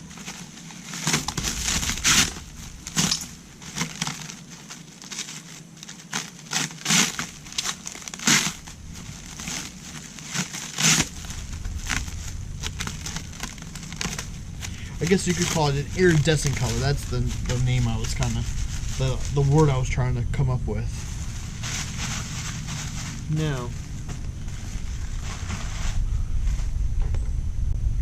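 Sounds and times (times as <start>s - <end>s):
crinkling and rustling: 0.0s - 27.2s.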